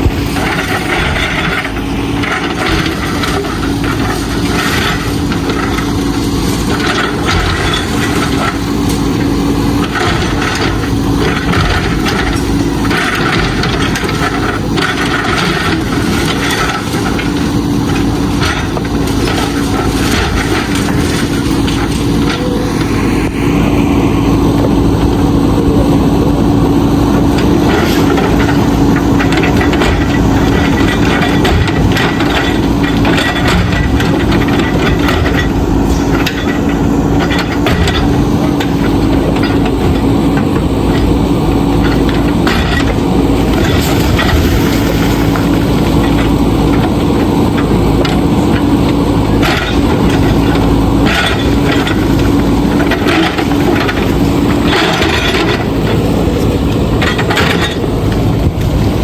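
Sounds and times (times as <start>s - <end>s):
bricks and rubble clattering: 0.0s - 23.2s, 27.1s - 58.8s
backhoe diesel engine: 0.0s - 59.0s.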